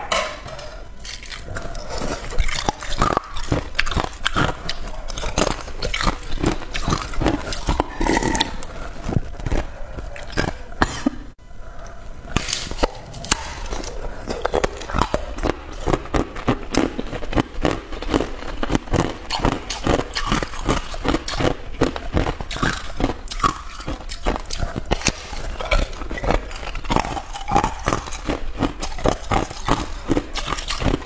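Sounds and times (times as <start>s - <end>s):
ice being chewed: 0.4s - 11.1s, 11.8s - 31.0s.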